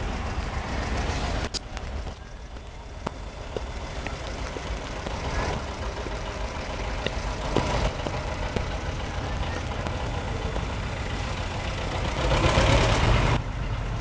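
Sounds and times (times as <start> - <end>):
low rumble of engines: 0.0 - 14.0.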